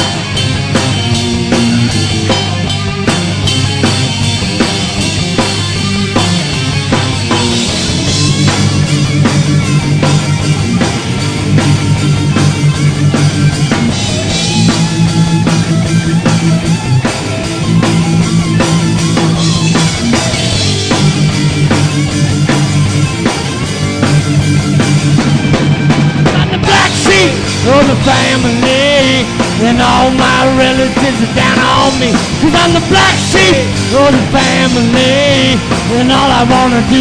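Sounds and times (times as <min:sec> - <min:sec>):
bass notes: 0:00.0 - 0:37.0
drum kit beat: 0:00.0 - 0:37.0
electric guitar lead: 0:00.0 - 0:37.0.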